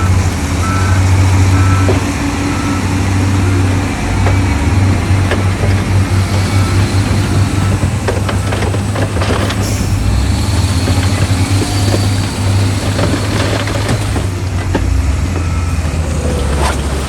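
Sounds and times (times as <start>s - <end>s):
heavy diesel engine droning: 0.0s - 17.0s
knocks and clatter: 0.0s - 17.0s.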